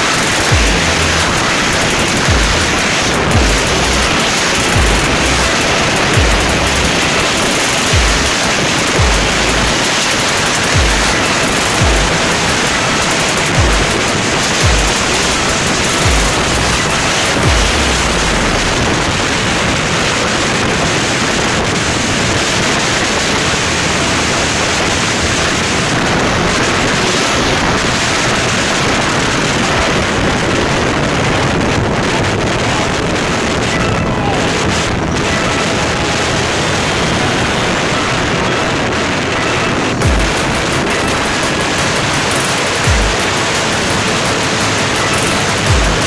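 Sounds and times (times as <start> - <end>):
wind rushing over microphone: 0.0 - 46.0.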